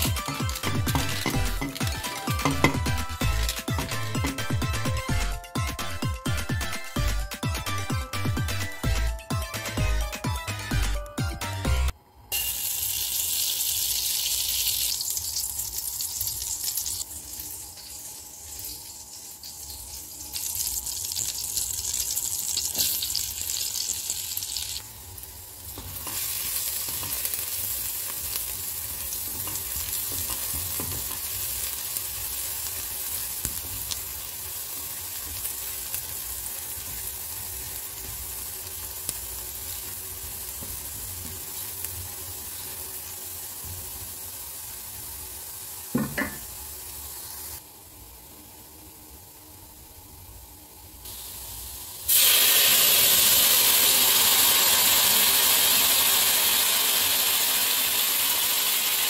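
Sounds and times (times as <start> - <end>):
butter and garlic sizzling: 0.0 - 9.9, 11.7 - 59.0.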